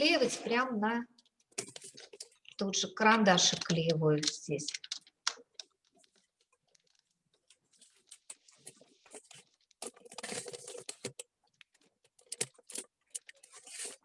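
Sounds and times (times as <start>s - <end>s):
paper rustling and crinkling: 1.5s - 14.0s.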